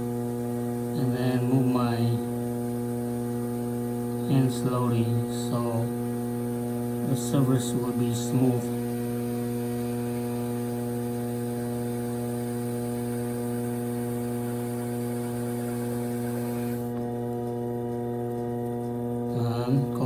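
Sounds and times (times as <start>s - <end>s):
potter's wheel electric hum: 0.0s - 20.0s.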